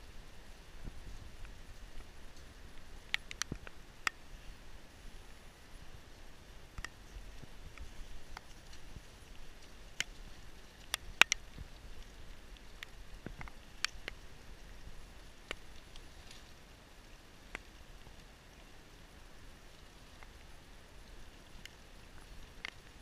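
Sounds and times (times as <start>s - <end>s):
faint background hiss: 0.0s - 23.0s.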